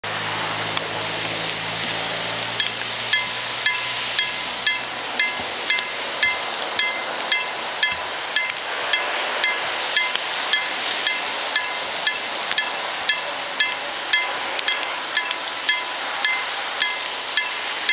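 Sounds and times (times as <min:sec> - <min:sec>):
low hum: 0:00.0 - 0:17.9
steady hiss: 0:00.1 - 0:17.9
level-crossing bell ringing: 0:02.6 - 0:17.9.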